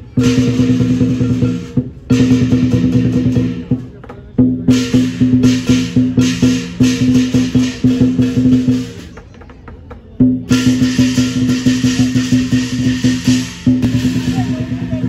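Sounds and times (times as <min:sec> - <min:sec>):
cymbals crashing: 0:00.0 - 0:03.9, 0:04.7 - 0:09.1, 0:10.5 - 0:15.0
fast drum beat: 0:00.0 - 0:09.2, 0:10.2 - 0:15.0.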